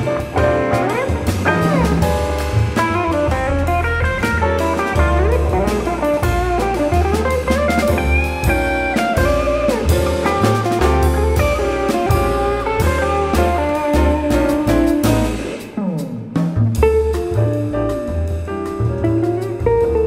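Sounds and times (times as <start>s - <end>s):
drum kit cymbals: 0.0s - 20.0s
electric guitar melody: 0.0s - 20.0s
piano chords: 0.0s - 20.0s
plucked double bass: 0.0s - 20.0s.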